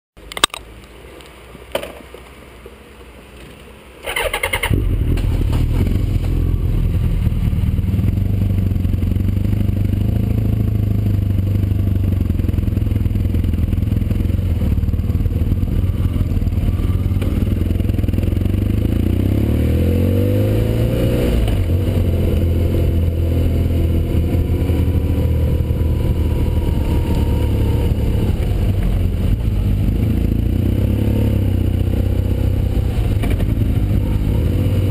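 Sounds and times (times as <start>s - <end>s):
motorcycle engine starting and idling: 4.0s - 19.6s, 21.3s - 34.9s
motorcycle accelerating away: 4.0s - 34.9s.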